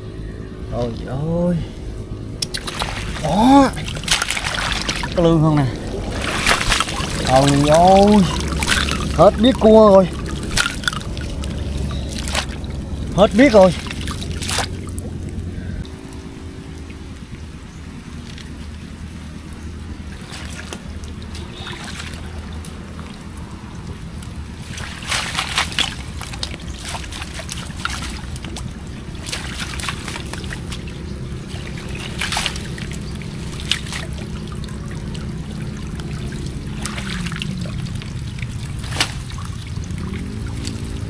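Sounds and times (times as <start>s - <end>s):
low engine hum: 0.0s - 41.0s
water splashing and trickling: 0.0s - 41.0s.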